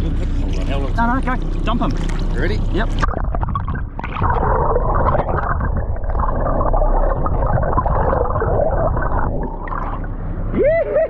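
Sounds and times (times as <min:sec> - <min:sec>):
boat engine drone: 0:00.0 - 0:11.0
muffled water rushing and gurgling: 0:00.0 - 0:11.0.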